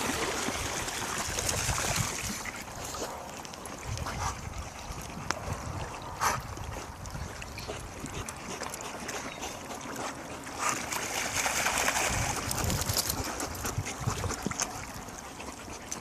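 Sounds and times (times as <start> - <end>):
water splashing from swimming animals: 0.0 - 16.0.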